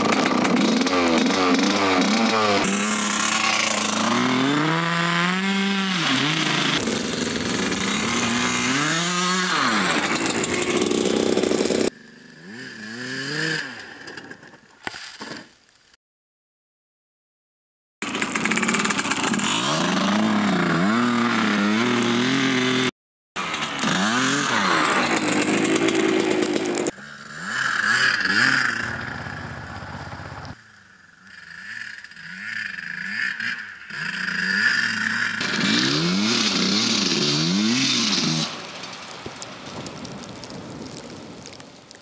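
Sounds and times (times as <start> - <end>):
dirt bike engine revving: 0.0 - 13.9, 18.0 - 38.6.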